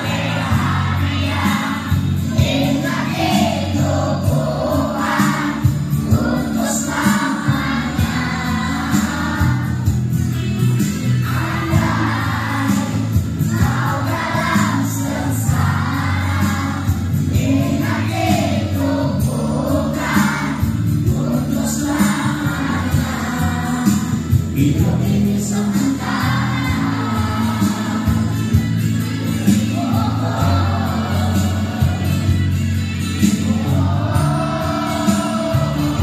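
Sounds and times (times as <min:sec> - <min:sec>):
children's choir singing: 0:00.0 - 0:10.2, 0:10.8 - 0:36.0
instrumental accompaniment: 0:00.0 - 0:36.0.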